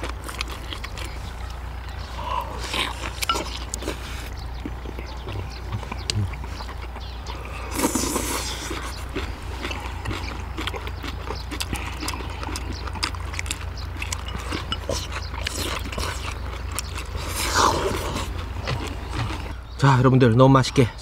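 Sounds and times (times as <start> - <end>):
chewing and mouth-smacking: 0.0 - 19.6
steady low hum: 0.0 - 21.0.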